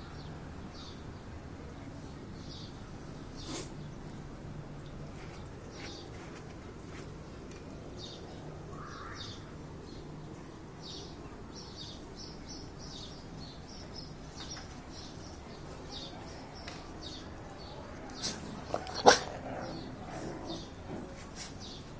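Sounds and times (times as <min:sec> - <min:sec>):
steady low background noise: 0:00.0 - 0:21.9
small birds chirping: 0:00.1 - 0:21.9.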